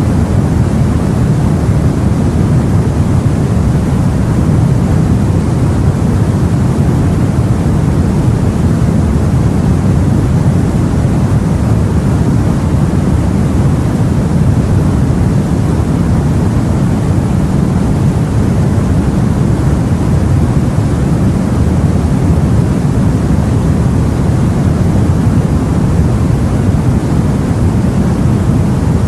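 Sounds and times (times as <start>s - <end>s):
deep rushing of sea: 0.0s - 29.0s.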